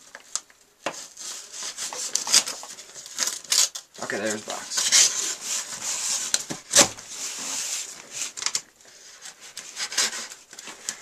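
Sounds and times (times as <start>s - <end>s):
packaging rubbing and scraping: 0.9s - 11.0s.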